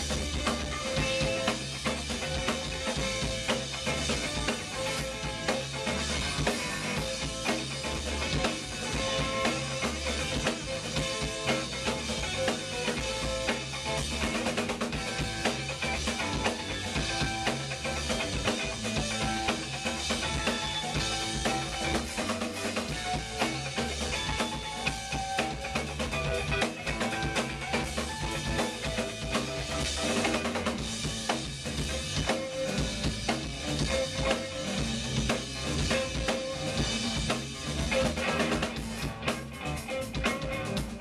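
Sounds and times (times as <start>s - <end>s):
drum kit beat: 0.0s - 41.0s
live band playing: 0.0s - 41.0s.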